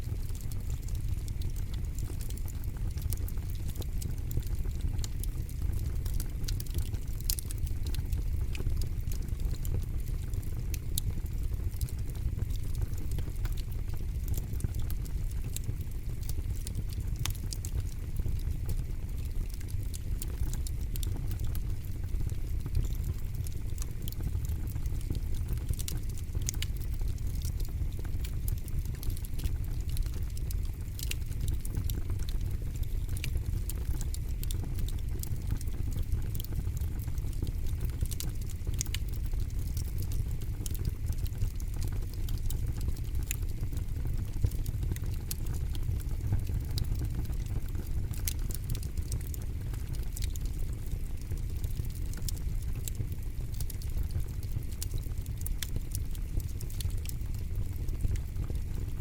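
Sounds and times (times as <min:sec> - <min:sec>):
campfire pops and snaps: 0:00.0 - 0:59.0.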